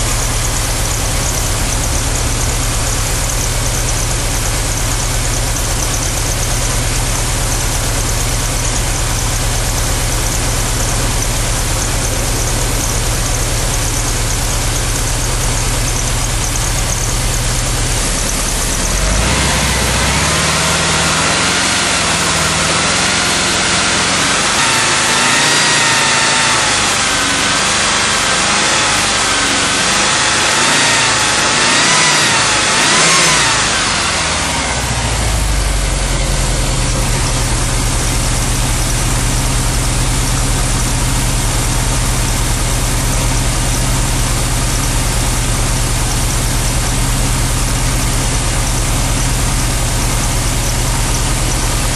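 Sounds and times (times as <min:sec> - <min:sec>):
van engine idling: 0:00.0 - 0:51.9.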